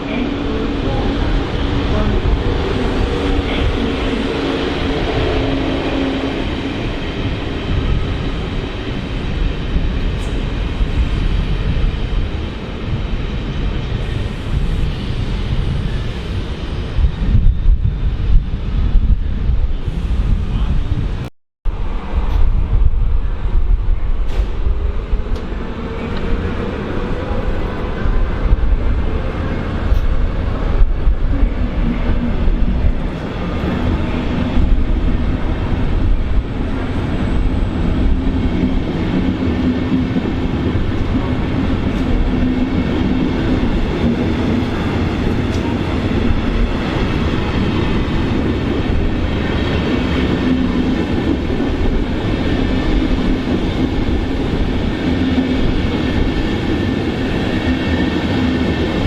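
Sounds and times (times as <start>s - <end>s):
train rumbling along tracks: 0.0s - 59.0s.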